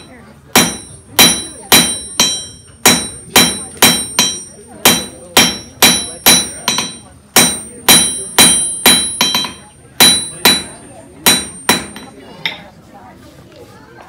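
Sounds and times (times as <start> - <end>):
hammer striking iron on anvil: 0.0 - 12.6.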